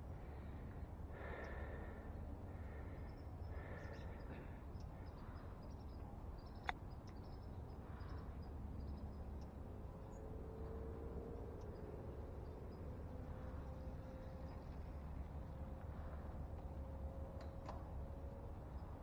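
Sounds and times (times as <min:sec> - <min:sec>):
low wind and road rumble: 0:00.0 - 0:19.0.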